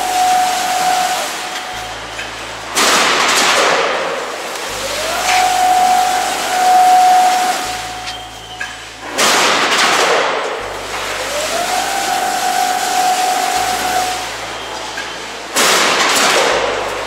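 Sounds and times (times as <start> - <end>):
steady machine whine: 0.0 - 15.6, 16.5 - 17.0
loud sudden noisy bursts: 0.0 - 17.0.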